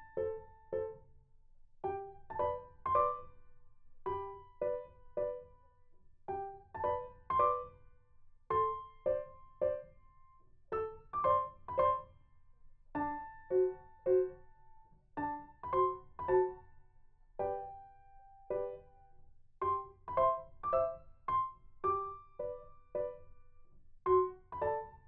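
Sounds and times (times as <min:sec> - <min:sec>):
slow gentle piano melody: 0:00.0 - 0:01.2, 0:01.8 - 0:25.0.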